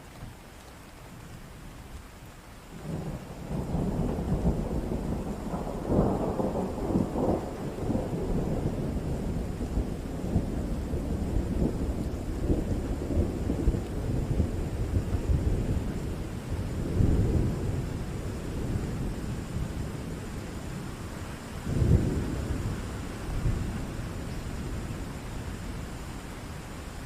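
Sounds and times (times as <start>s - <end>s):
steady rain: 0.0s - 27.0s
thunder rumbling: 2.8s - 25.9s.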